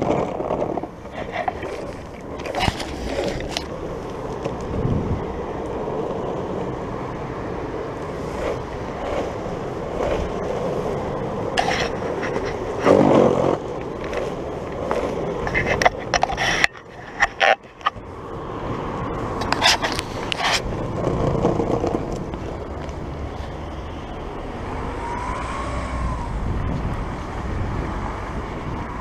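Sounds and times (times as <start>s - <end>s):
skateboard wheels rolling on asphalt: 0.0s - 29.0s.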